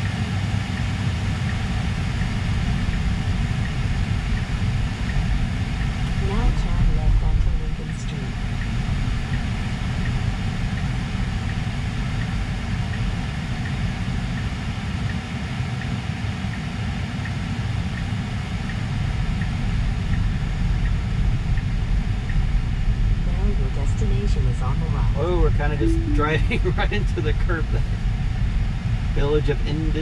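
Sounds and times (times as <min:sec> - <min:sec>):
road and tyre rumble in car: 0:00.0 - 0:30.0.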